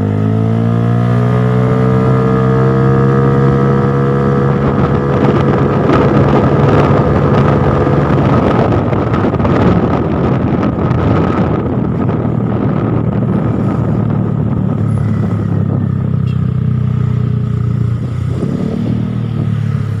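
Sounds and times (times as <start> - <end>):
scooter engine running: 1.9 - 20.0.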